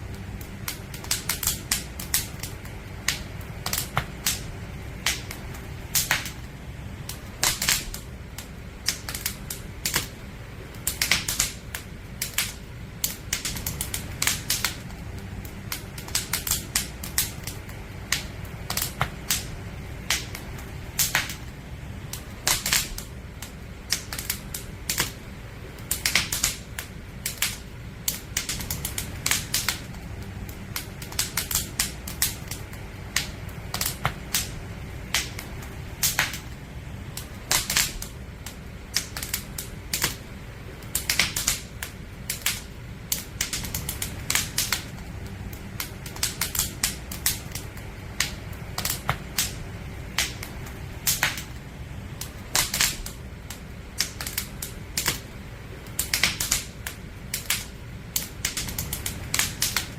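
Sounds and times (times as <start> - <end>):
campfire crackling and popping: 0.0 - 59.9
low rumble: 0.0 - 59.9.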